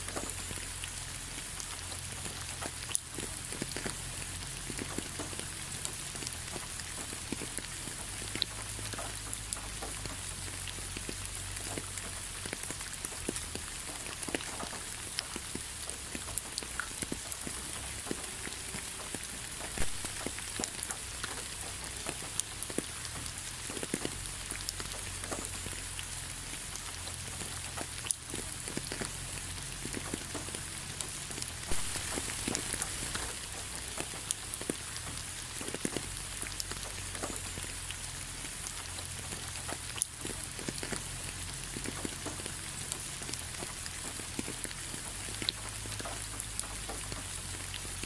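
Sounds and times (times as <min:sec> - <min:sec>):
steady rain hiss: 0:00.0 - 0:48.0.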